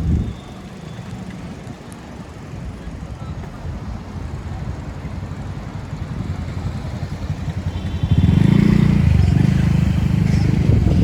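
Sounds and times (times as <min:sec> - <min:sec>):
motorcycle engine close: 0:00.0 - 0:11.0
street traffic rumble: 0:00.0 - 0:11.0.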